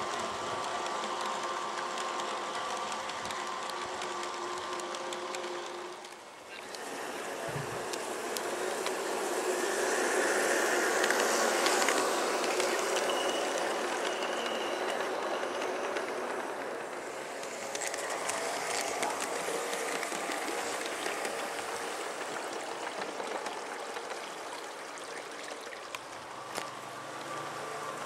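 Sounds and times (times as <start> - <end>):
faint motor whine: 0.0 - 28.0
light clicks over rails: 0.0 - 28.0
model trains whirring: 0.0 - 28.0.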